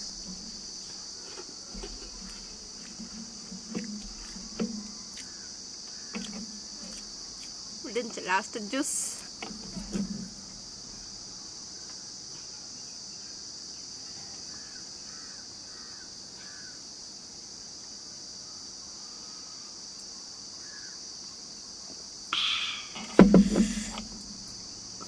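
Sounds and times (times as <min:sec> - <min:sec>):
crickets droning: 0:00.0 - 0:25.0.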